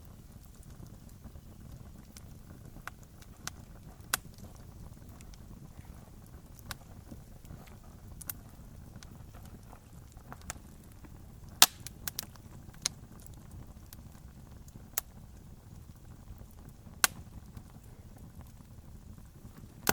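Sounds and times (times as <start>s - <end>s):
campfire crackling: 0.0s - 19.9s.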